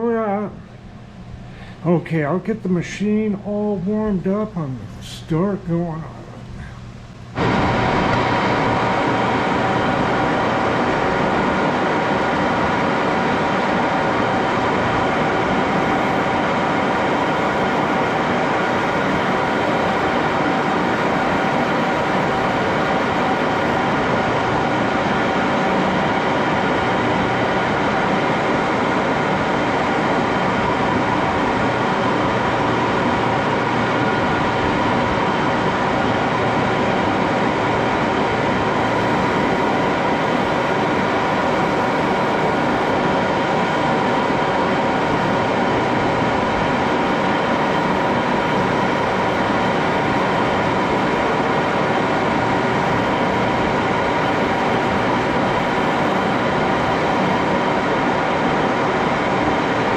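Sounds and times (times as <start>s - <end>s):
lathe rumbling and whining: 0.0s - 59.9s.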